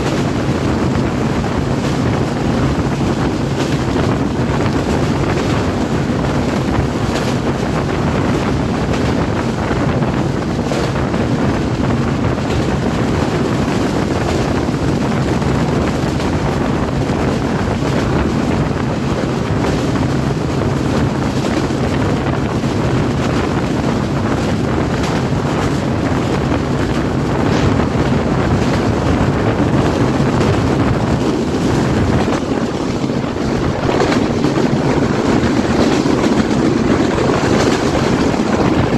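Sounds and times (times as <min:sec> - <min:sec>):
train rumbling on rails: 0:00.0 - 0:38.9
wind buffeting microphone: 0:00.0 - 0:38.9.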